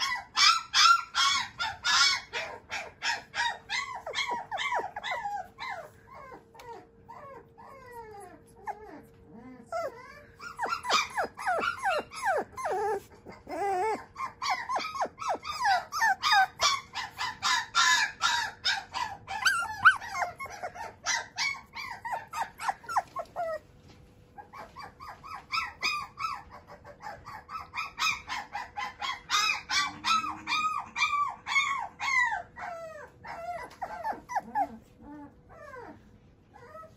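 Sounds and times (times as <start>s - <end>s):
puppy whining and crying: 0.0s - 36.9s.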